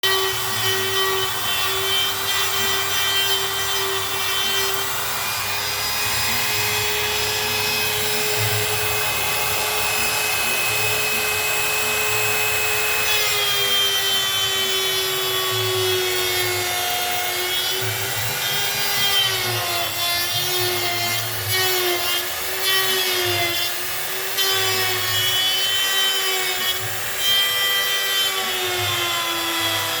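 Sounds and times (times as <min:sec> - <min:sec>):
wood router cutting wood: 0:00.0 - 0:30.0.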